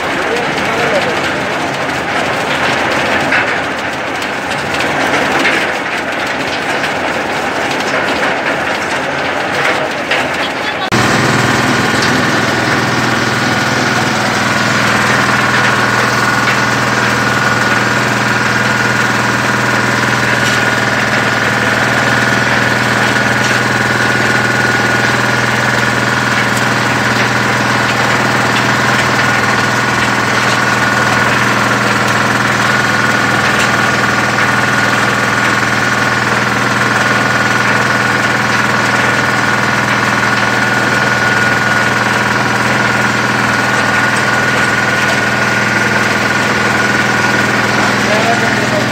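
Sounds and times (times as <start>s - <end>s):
machine droning with whine: 0.0s - 48.9s.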